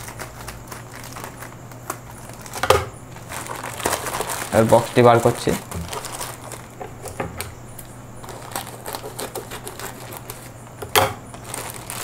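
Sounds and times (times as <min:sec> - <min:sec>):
plastic mailer bag crinkling: 0:00.0 - 0:07.2, 0:08.2 - 0:10.6, 0:11.2 - 0:12.0.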